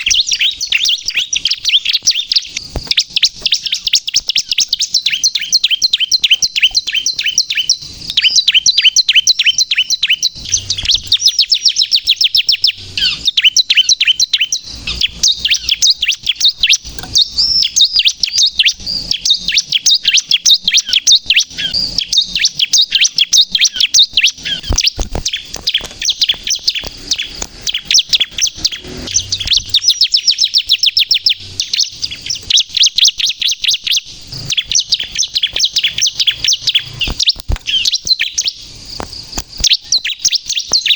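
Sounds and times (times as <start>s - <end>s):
bird singing rapid trills: 0.0s - 40.9s.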